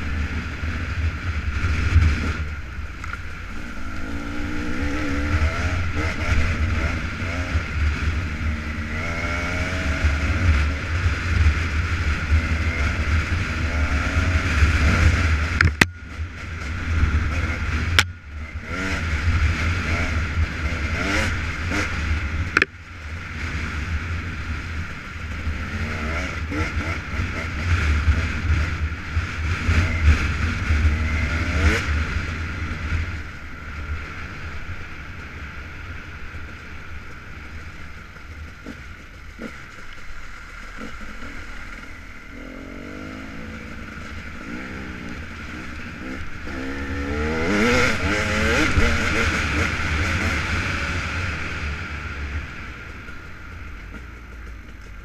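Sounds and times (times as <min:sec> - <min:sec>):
motorcycle engine revving: 0:00.0 - 0:55.0
wind rumble on microphone: 0:00.0 - 0:55.0.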